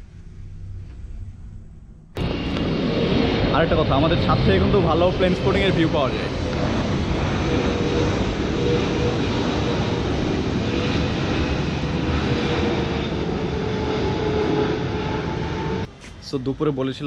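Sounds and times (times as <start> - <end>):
faint jet whine: 0.0 - 17.0
jet airliner flying overhead: 0.0 - 17.0.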